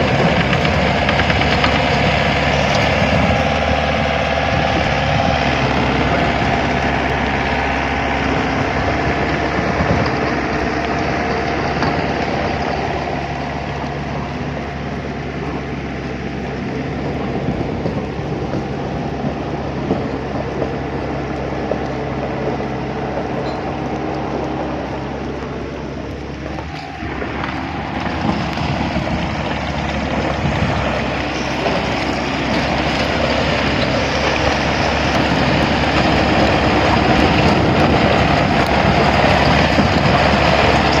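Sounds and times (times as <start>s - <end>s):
engine humming: 0.0s - 41.0s.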